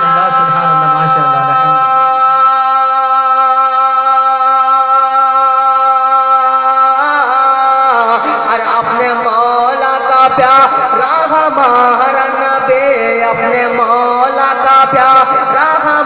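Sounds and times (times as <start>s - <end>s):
man singing through loudspeakers: 0.0s - 16.0s.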